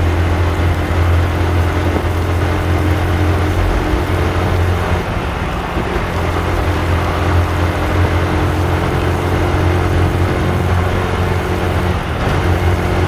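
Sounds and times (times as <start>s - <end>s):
motorcycle engine cruising: 0.0s - 13.0s
wind and road rush: 0.0s - 13.0s.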